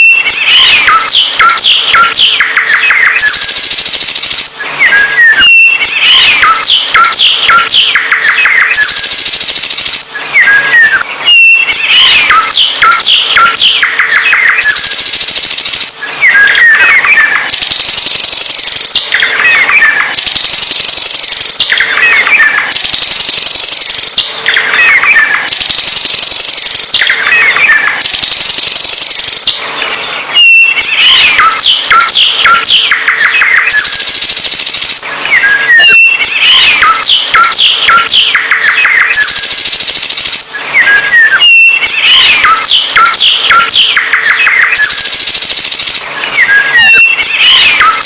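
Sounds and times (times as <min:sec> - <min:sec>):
songbird singing: 0:00.0 - 0:09.2, 0:09.8 - 0:34.1, 0:35.0 - 0:39.4, 0:40.4 - 0:45.1, 0:46.0 - 0:48.0.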